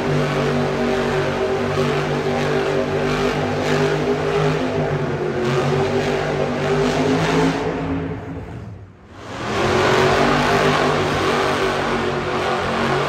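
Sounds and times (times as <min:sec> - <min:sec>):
truck engine at high revs: 0:00.0 - 0:08.2, 0:09.1 - 0:13.0.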